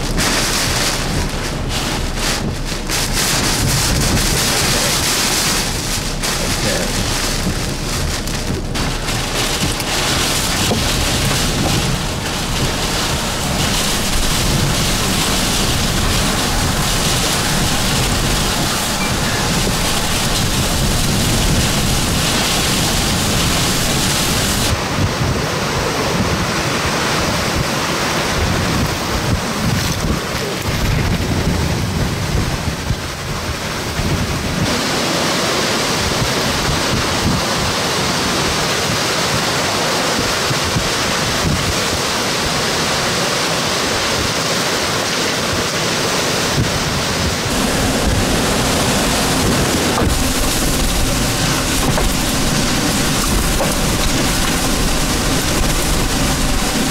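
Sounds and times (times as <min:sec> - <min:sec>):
hurricane wind gusts: 0:00.0 - 0:56.9
torrential rain: 0:00.0 - 0:56.9
wind buffeting microphone: 0:00.0 - 0:56.9.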